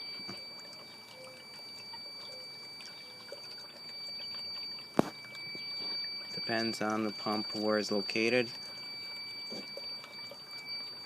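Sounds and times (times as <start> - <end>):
bubbling water: 0.0 - 11.0
steady high tone: 0.0 - 11.0
water trickling and pouring: 0.0 - 11.0.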